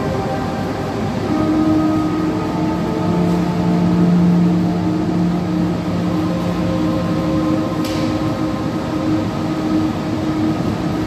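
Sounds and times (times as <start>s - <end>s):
ambient drone tones: 0.0s - 11.0s.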